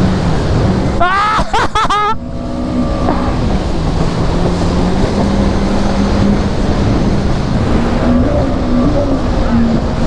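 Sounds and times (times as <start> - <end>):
jet ski engine running: 0.0 - 10.0
rushing water spray: 0.0 - 10.0
wind: 0.0 - 10.0.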